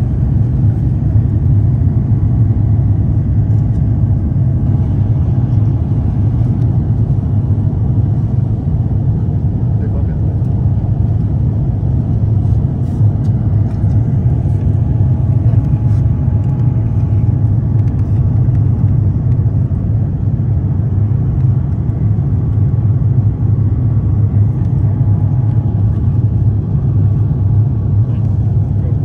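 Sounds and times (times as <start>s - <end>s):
low aircraft cabin rumble: 0.0s - 29.0s.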